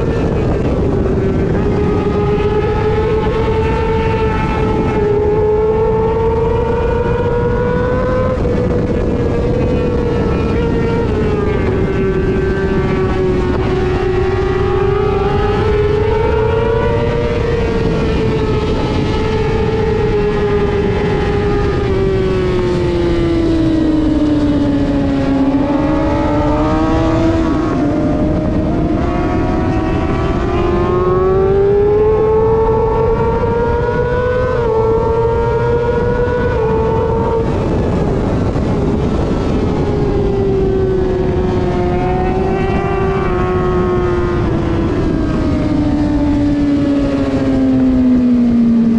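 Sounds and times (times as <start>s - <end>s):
motorcycle engine at high revs: 0.0s - 48.9s.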